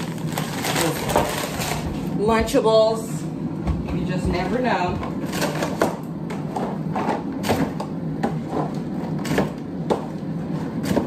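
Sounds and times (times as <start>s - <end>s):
groceries clicking and knocking: 0.0s - 2.7s, 3.6s - 11.0s.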